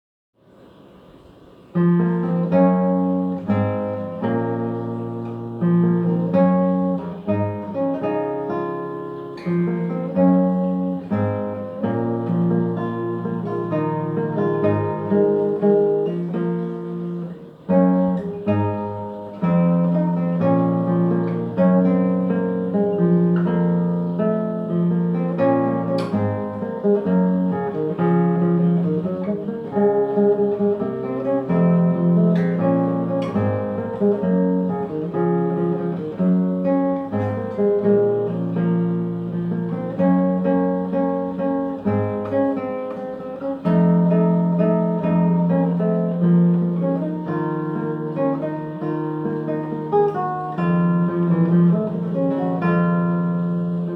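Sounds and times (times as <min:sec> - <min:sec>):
fingerstyle acoustic guitar: 0:00.5 - 0:53.9.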